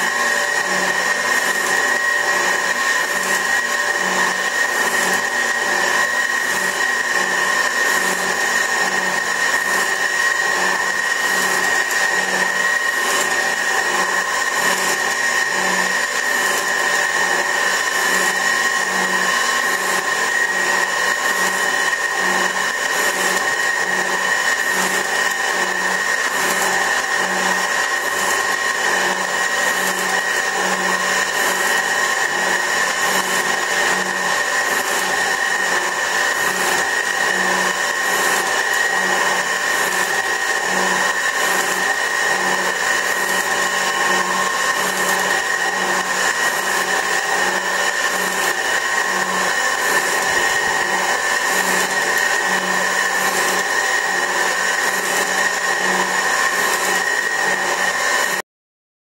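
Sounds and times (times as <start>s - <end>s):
metal shaper whine: 0.0s - 58.4s.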